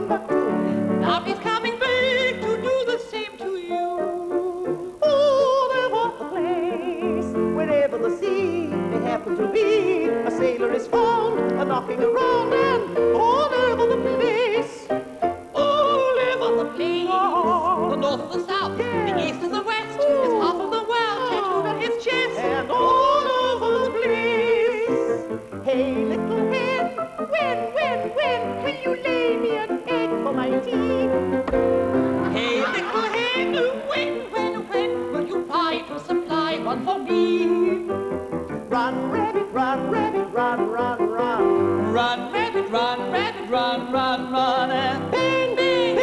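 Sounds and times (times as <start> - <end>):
high voices singing operatically: 0.0 - 31.4, 32.1 - 37.9, 38.6 - 46.0
piano accompaniment: 0.0 - 46.0.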